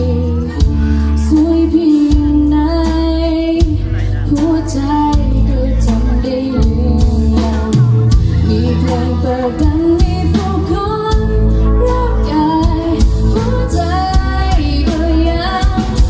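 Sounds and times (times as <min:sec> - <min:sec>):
bass: 0:00.0 - 0:16.0
drum kit: 0:00.0 - 0:16.0
electric guitars: 0:00.0 - 0:16.0
woman singing into microphone: 0:00.0 - 0:16.0.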